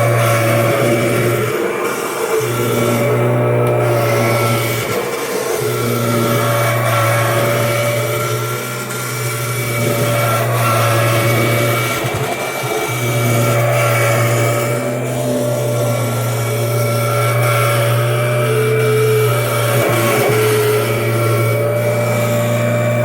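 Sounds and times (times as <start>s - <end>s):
upright vacuum cleaner running: 0.0s - 23.0s.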